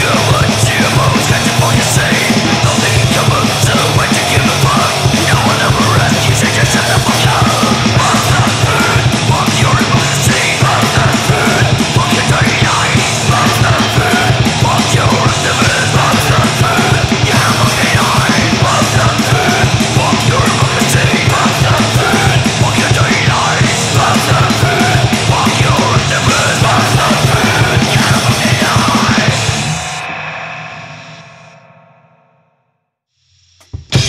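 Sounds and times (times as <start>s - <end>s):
harsh shouted vocals: 0.0s - 30.4s
driving drums: 0.0s - 32.1s, 33.5s - 34.0s
distorted guitars: 0.0s - 32.5s, 33.2s - 34.0s.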